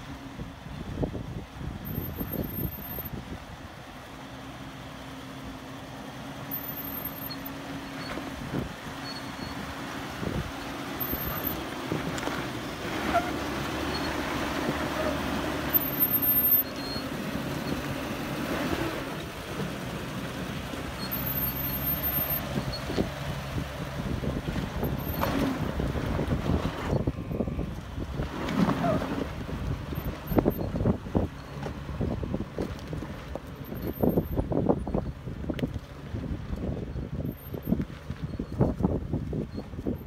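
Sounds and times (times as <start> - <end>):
engine running at low revs: 0.0 - 40.0.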